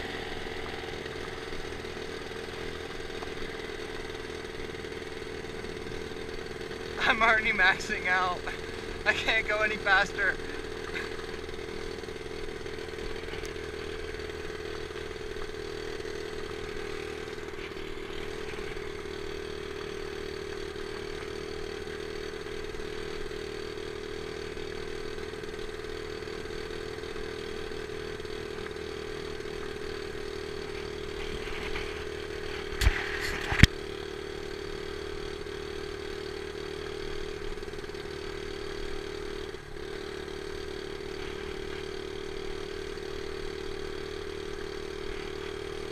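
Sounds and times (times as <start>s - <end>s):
dirt bike engine running flat out: 0.0s - 45.9s.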